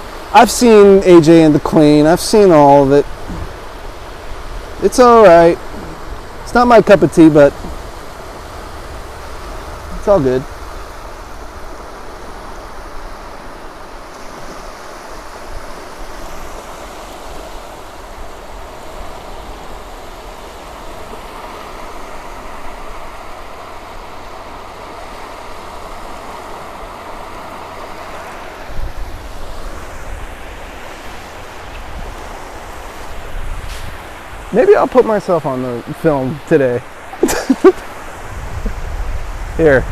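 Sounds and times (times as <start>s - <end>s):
surf washing onto beach: 0.0s - 39.9s
wind buffeting microphone: 0.0s - 39.9s.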